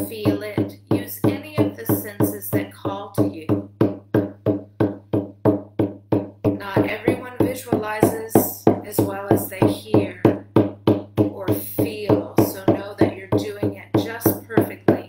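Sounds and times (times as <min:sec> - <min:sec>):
frame drum beating: 0:00.0 - 0:15.0.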